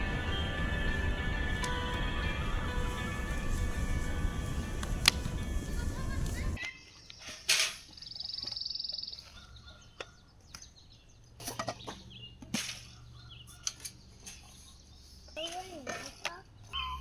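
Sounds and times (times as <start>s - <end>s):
birds chirping: 0.0s - 7.2s, 7.9s - 15.8s.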